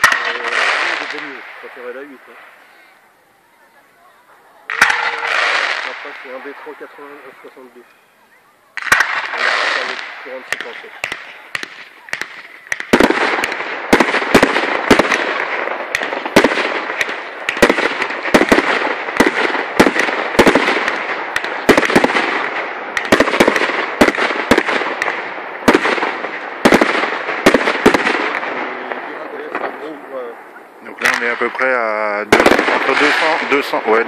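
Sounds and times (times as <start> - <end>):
fireworks bangs: 0.0 - 7.8, 8.7 - 34.0
fireworks crackling hiss: 0.0 - 34.0.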